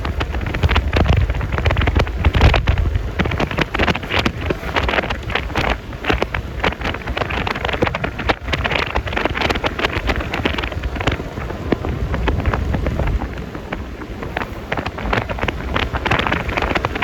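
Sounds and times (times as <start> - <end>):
scooter engine rumble: 0.0 - 17.0
wind buffeting microphone: 0.0 - 17.0.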